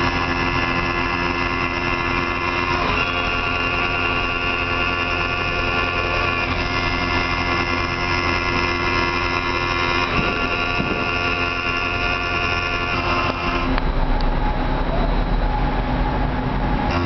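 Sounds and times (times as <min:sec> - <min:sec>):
milling machine spindle whine: 0:00.0 - 0:14.0, 0:15.6 - 0:17.0
low hum: 0:00.0 - 0:17.0.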